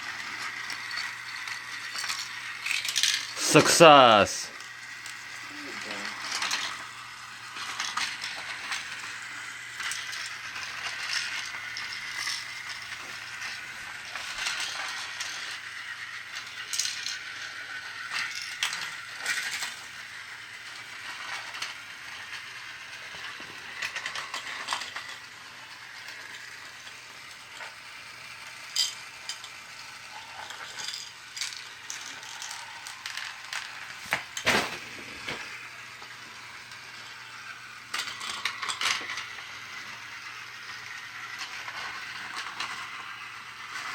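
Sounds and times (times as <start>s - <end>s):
toy motor and gears whirring: 0.0s - 43.9s.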